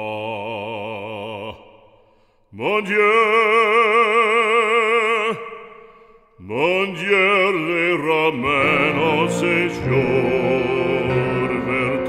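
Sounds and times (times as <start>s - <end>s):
operatic voice singing hymn: 0.0s - 1.9s, 2.5s - 5.8s, 6.4s - 12.0s.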